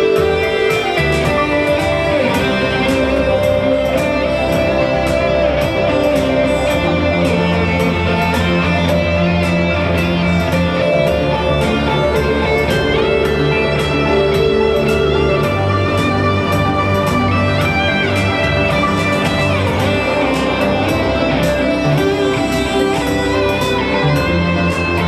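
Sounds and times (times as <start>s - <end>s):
guitar: 0.0s - 25.0s
live band playing: 0.0s - 25.0s.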